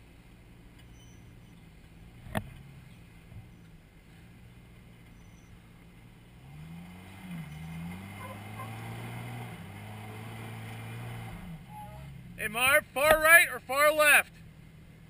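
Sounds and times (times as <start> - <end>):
car engine under load: 0.0 - 13.4.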